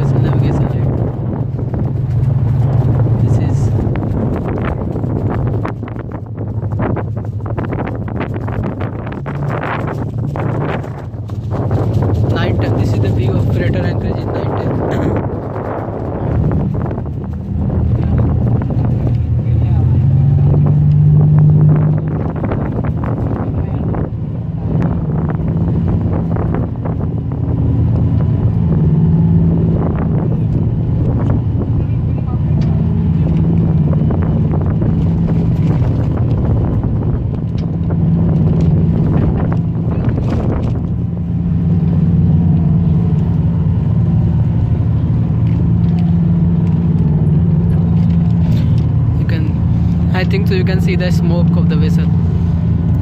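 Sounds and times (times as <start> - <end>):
boat engines humming: 0.0 - 53.0
wind buffeting microphone: 0.0 - 53.0.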